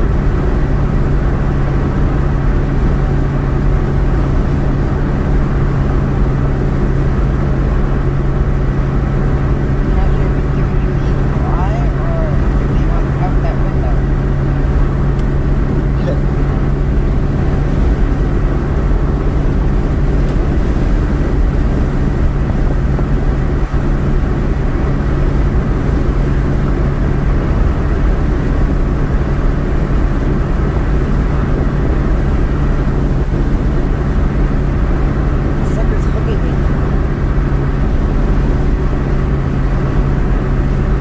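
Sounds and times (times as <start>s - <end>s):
road and engine noise in car: 0.0s - 41.0s
steady low hum: 0.0s - 41.0s.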